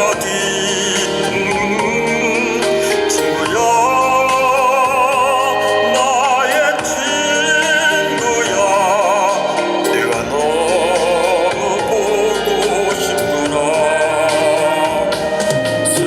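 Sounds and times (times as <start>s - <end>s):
band accompaniment: 0.0s - 16.0s
man singing with vibrato: 0.0s - 16.0s.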